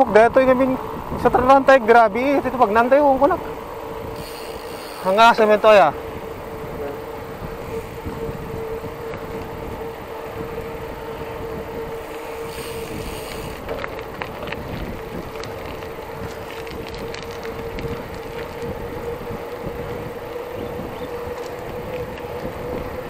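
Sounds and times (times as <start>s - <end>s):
bike tyre noise: 0.0s - 23.0s
wind on microphone: 0.1s - 23.0s
steady hum: 0.4s - 23.0s.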